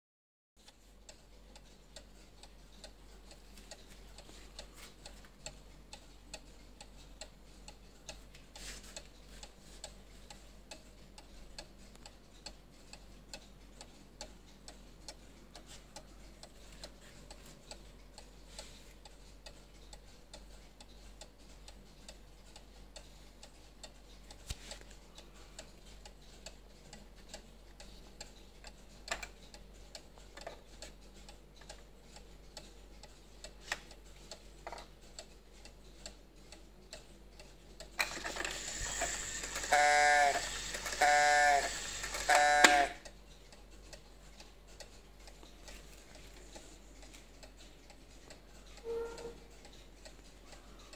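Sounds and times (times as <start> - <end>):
clock ticking: 0.6 - 50.9
sharp clock clicks: 0.6 - 50.9.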